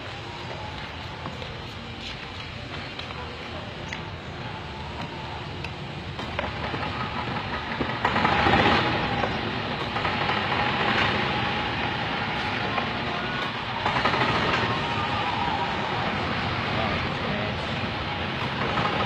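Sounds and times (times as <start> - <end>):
golf cart driving on road: 0.0 - 19.0.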